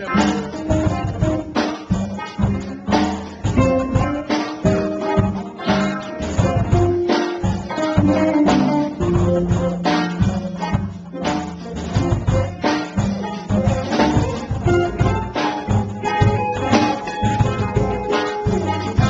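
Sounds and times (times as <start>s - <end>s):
drums: 0.0s - 19.0s
electric guitar: 0.0s - 19.0s.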